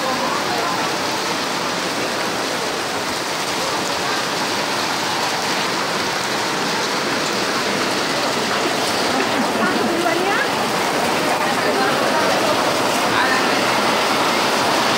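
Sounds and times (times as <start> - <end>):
rain falling steadily: 0.0 - 14.9.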